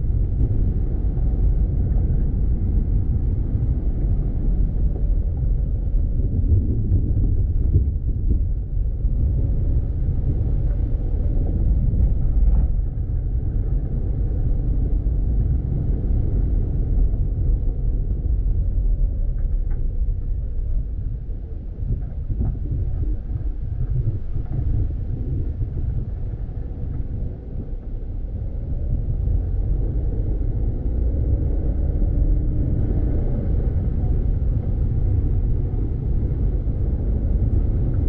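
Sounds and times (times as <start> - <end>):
car driving on dirt road: 0.0 - 38.0.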